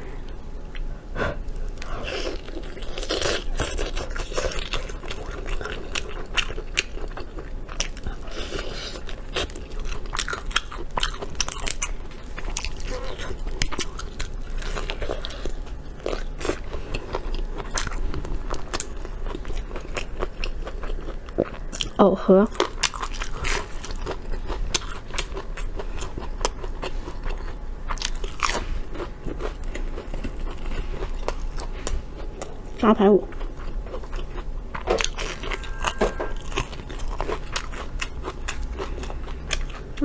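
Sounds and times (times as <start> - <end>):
crunchy fried food chewing: 0.0 - 40.0.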